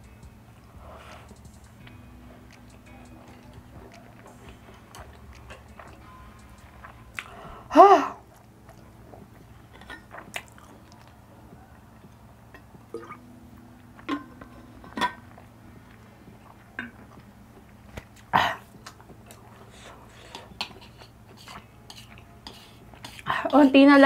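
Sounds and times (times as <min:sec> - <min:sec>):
person chewing noodles: 0:01.0 - 0:13.2, 0:14.8 - 0:23.4.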